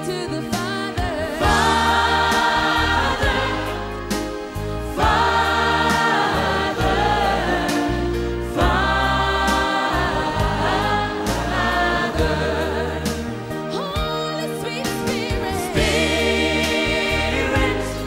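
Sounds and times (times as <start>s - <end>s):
choir singing gospel music: 0.0s - 18.0s.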